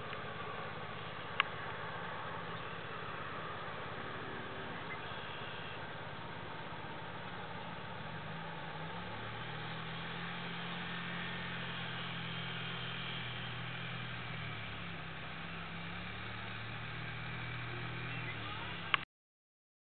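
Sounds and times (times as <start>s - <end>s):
atv engines running: 0.0s - 19.1s.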